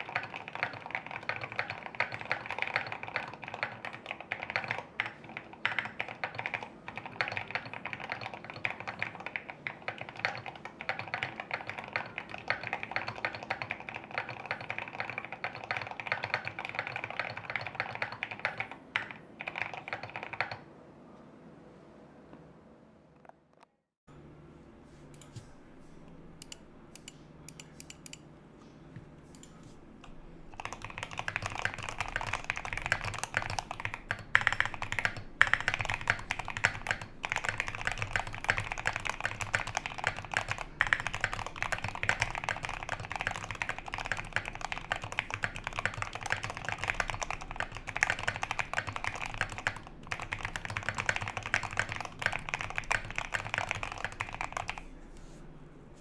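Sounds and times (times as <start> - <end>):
rapid typing on mechanical keyboard: 0.0 - 20.7, 29.4 - 55.0.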